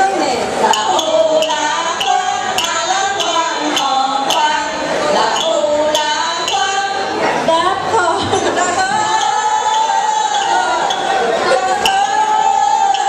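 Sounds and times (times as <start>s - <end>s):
young voices singing together: 0.0s - 13.0s.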